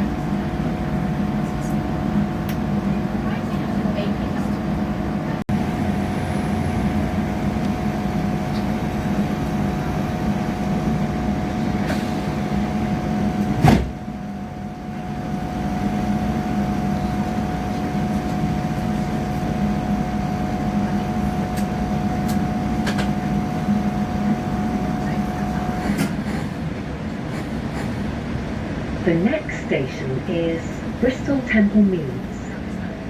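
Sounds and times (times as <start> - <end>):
train rumbling with whine: 0.0 - 33.0.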